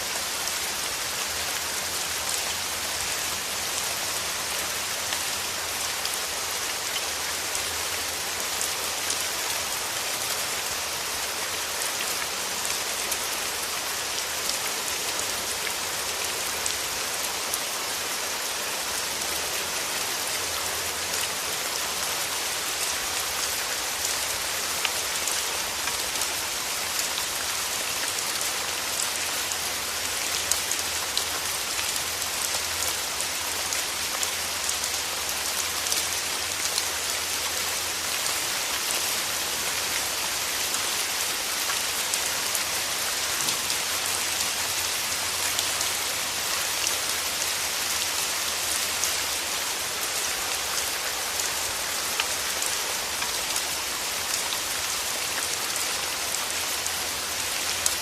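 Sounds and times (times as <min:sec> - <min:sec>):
rain falling through trees: 0:00.0 - 0:58.0.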